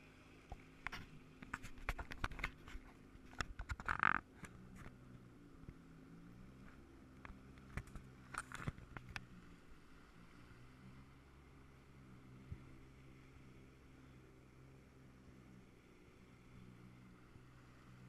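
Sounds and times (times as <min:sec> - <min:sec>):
jet ski engine idling: 0:00.0 - 0:18.0.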